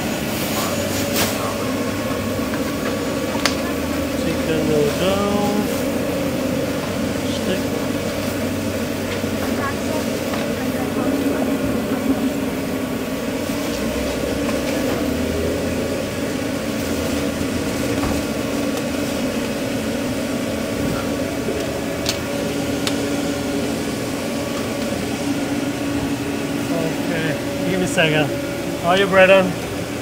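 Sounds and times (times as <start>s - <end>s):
kitchen machinery drone: 0.0s - 30.0s.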